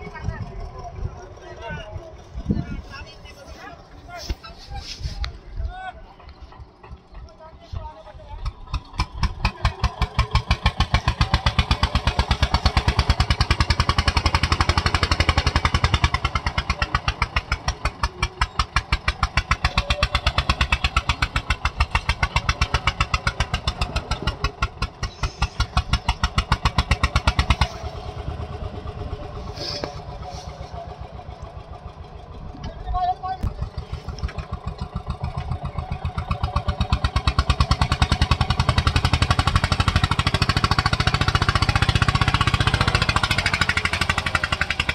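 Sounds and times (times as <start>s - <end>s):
tractor diesel engine chugging: 0.0s - 44.9s.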